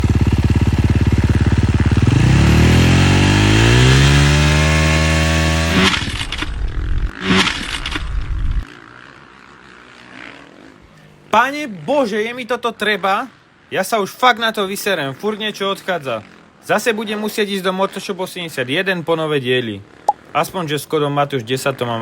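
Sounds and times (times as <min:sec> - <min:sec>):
dirt bike engine idling and revving: 0:00.0 - 0:13.8, 0:15.2 - 0:19.0, 0:19.8 - 0:20.4.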